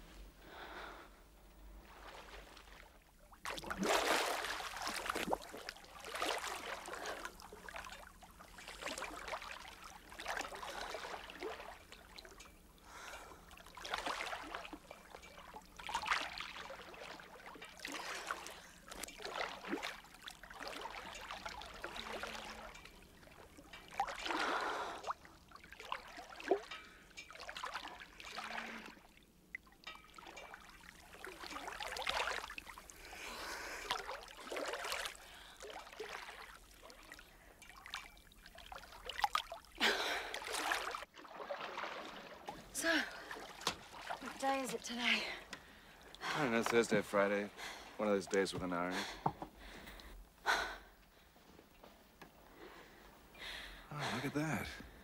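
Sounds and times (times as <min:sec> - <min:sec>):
water splashing and lapping: 0:01.7 - 0:55.0.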